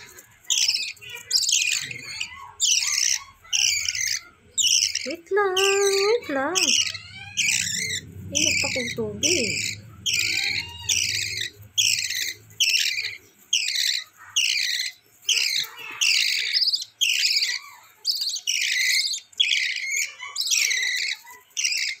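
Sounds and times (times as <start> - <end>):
bird chicks raspy begging calls: 0.0 - 22.0.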